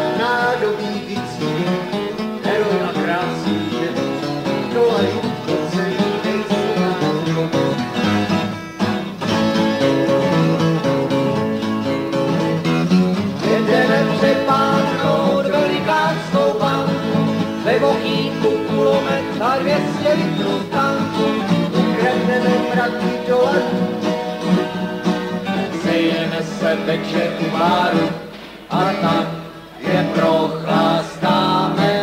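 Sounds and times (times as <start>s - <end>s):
acoustic guitars playing: 0.0s - 32.0s.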